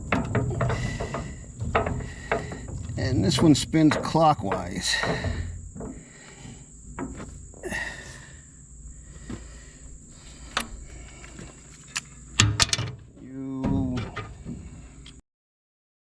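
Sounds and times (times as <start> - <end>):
faint high whine: 0.0 - 15.2.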